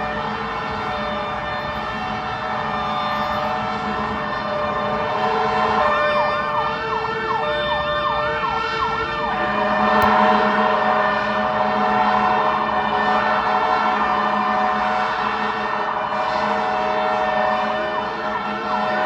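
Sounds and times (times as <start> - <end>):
fire truck siren yelping: 0.0 - 19.0.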